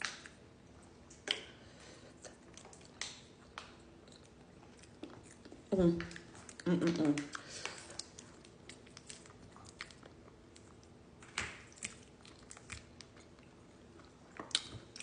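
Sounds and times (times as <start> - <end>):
chewing with wet mouth smacks: 0.0 - 15.0.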